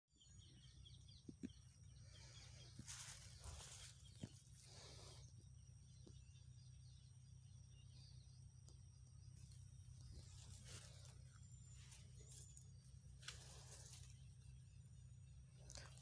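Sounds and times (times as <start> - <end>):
faint bird chirps: 0.1 - 16.0
faint background hum: 0.2 - 16.0.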